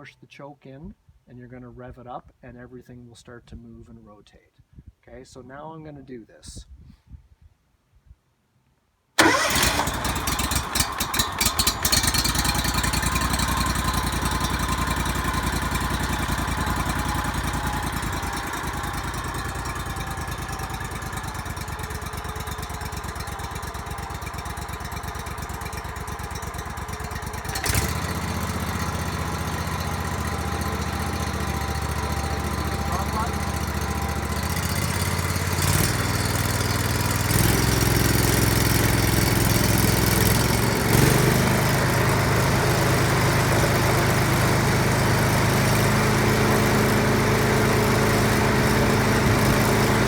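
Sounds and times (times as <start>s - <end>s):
small gasoline engine running: 9.2s - 50.0s.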